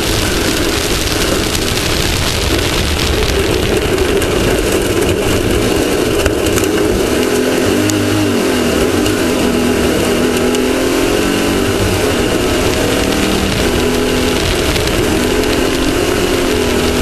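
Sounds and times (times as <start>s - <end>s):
off-road vehicle engine running: 0.0s - 17.0s
steady noisy rush: 0.0s - 17.0s.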